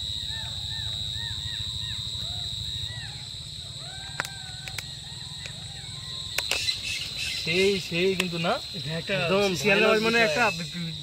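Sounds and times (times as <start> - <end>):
high insect drone: 0.0 - 11.0
jackals howling: 0.1 - 8.1, 9.1 - 11.0.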